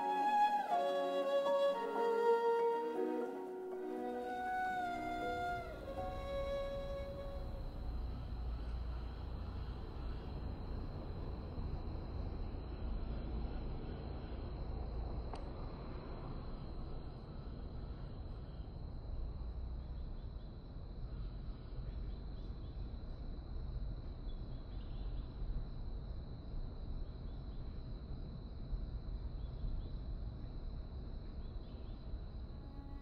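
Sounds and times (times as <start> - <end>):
high insect drone: 0.0 - 33.0
low rumble of city noise: 0.0 - 33.0.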